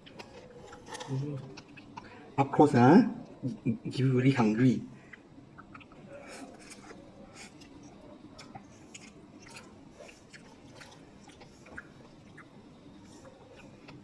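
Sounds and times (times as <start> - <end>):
person chewing noodles: 0.0 - 2.4, 5.0 - 14.0.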